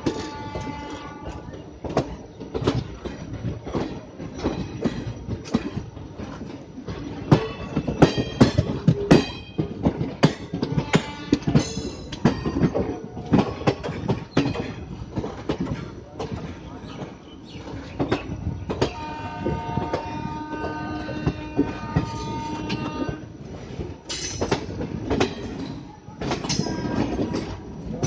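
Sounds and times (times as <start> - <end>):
train wheels knocking over rail joints: 0.0 - 28.0.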